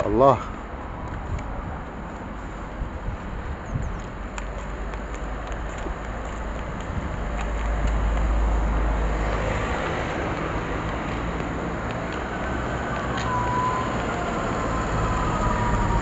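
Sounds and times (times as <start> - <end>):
steady rushing outdoor noise: 0.0 - 16.0.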